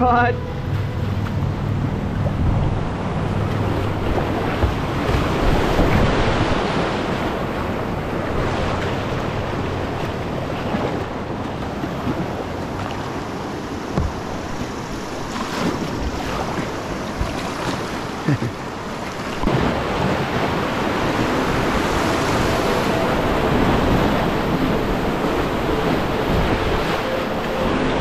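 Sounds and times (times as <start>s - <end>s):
paddle splashes: 3.2s - 28.0s.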